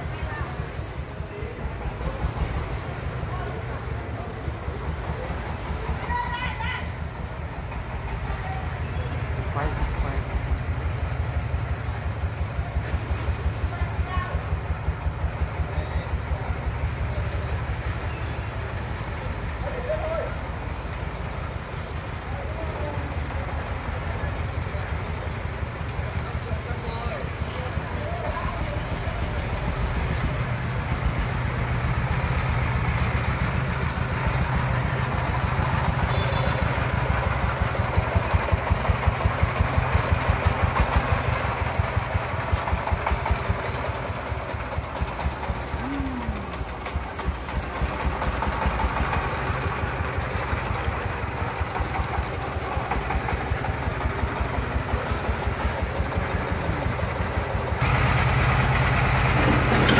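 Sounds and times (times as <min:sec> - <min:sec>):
truck engine chugging: 0:00.0 - 0:59.9.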